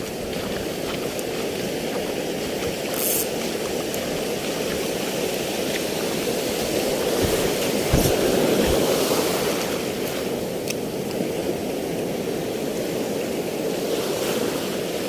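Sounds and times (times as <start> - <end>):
sea waves rushing: 0.0 - 15.0.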